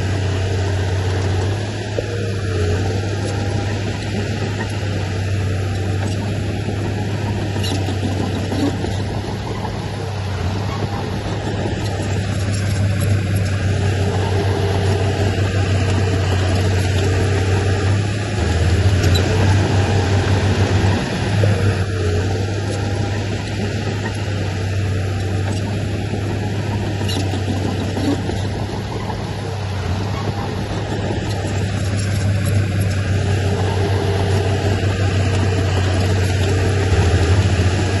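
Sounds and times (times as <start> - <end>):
heavy diesel engine humming: 0.0 - 38.0.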